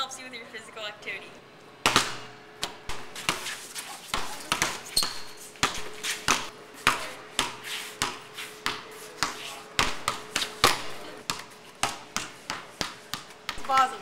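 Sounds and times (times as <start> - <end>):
basketball bouncing on concrete: 1.8 - 14.0.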